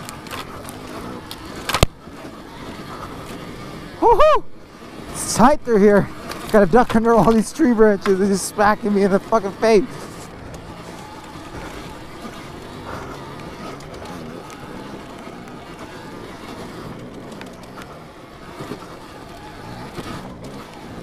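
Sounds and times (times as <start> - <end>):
riding and wind noise: 0.0 - 21.0.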